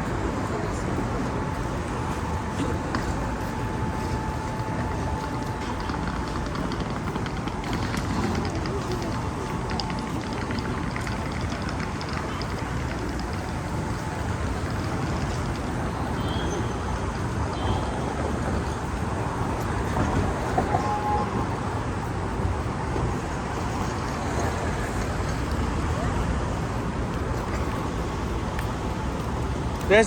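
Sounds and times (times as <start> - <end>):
city road traffic rumble: 0.0 - 30.0.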